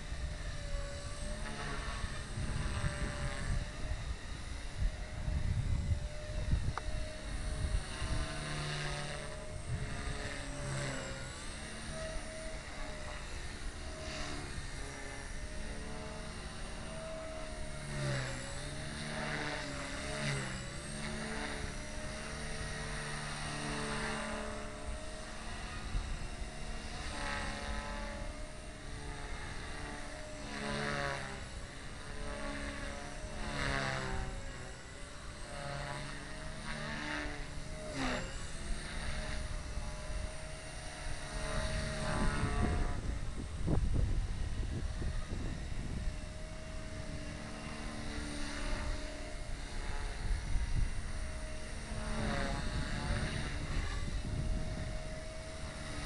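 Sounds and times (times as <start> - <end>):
helicopter rotor noise: 0.0 - 56.0
rc helicopter motor whine: 0.0 - 56.0.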